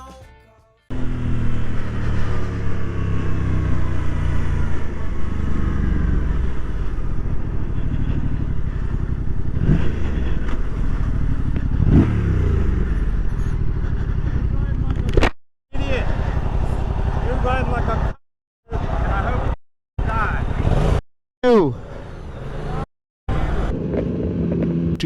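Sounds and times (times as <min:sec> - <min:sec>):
motorcycle engine running: 0:00.9 - 0:21.0.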